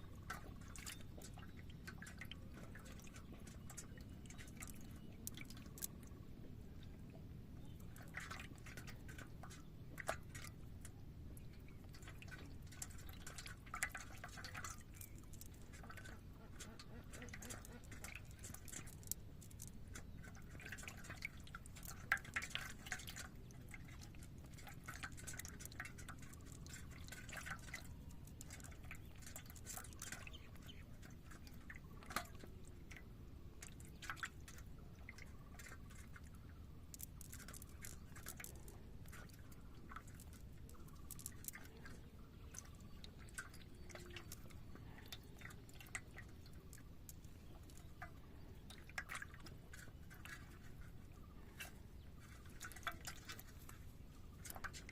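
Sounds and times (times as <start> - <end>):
water splashing and dripping: 0.0 - 54.9.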